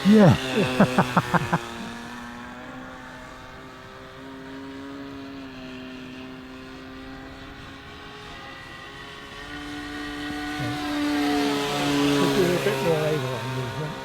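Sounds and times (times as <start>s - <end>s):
model aeroplane engine: 0.0s - 14.0s.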